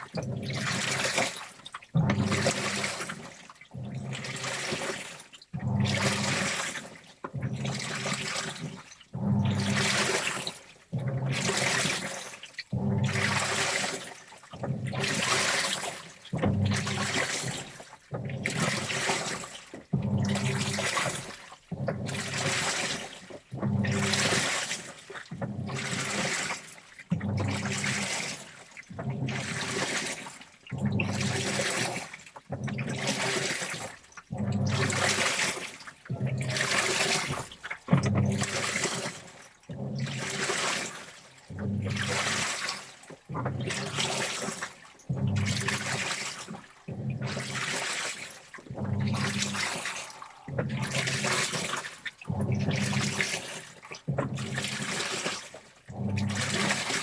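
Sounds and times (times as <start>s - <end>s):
washing machine motor humming: 0.0s - 57.0s
water sloshing in washing machine: 0.0s - 57.0s.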